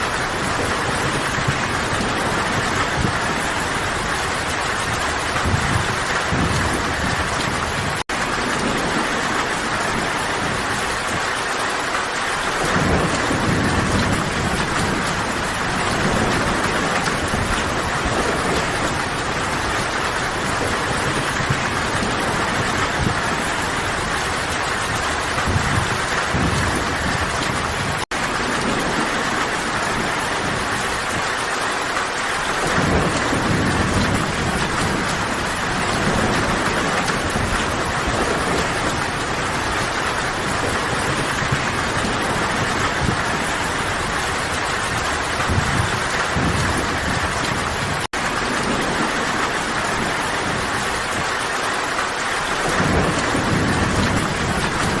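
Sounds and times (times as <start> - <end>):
distant thunder rumbling: 0.0 - 55.0
heavy rain: 0.0 - 55.0.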